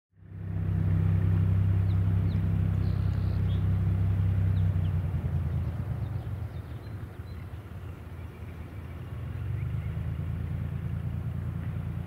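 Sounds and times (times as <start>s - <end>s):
propeller aircraft engine droning: 0.2s - 12.0s.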